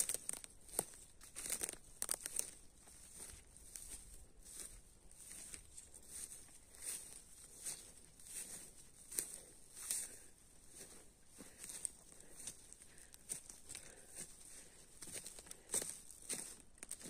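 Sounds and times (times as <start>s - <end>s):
footsteps crunching dry grass: 0.0s - 17.0s.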